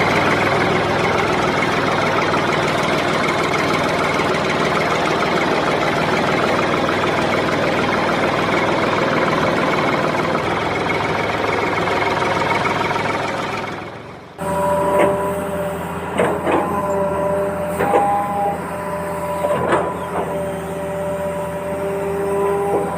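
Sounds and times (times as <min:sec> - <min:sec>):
mini tractor engine running: 0:00.0 - 0:22.9.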